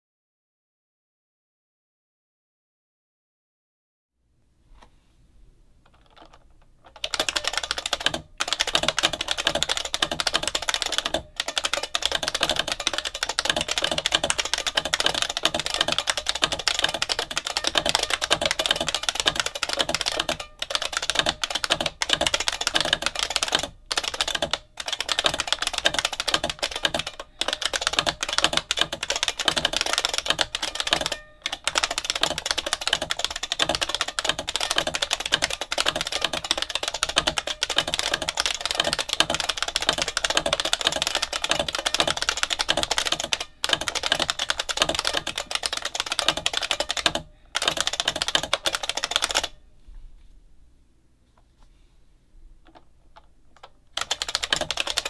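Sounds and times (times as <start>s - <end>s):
fast typing on clicky keyboard: 5.9s - 49.5s, 53.6s - 55.0s.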